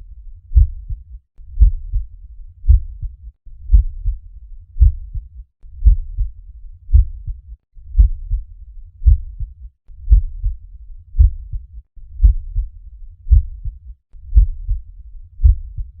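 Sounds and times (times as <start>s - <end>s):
heartbeat lub-dub: 0.5s - 2.1s, 2.7s - 4.2s, 4.8s - 6.3s, 6.9s - 10.6s, 11.2s - 16.0s.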